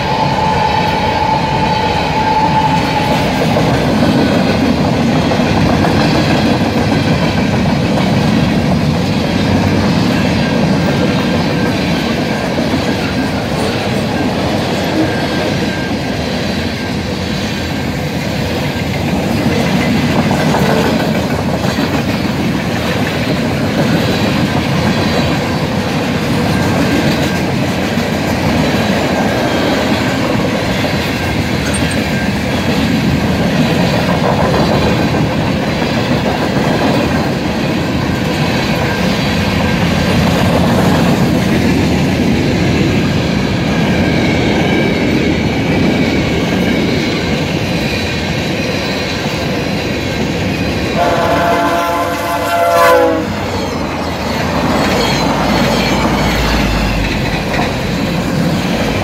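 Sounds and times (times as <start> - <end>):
train wheels clattering over joints: 3.0 - 51.0, 53.4 - 59.0.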